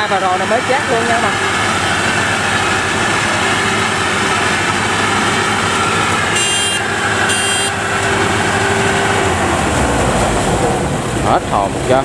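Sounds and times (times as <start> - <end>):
combine harvester engine straining: 0.0 - 12.0.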